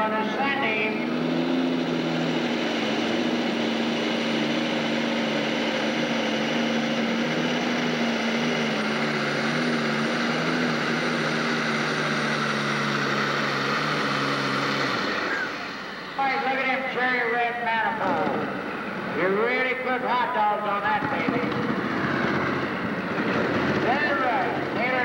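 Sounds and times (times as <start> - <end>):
tractor engine drone at full throttle: 0.0 - 25.0.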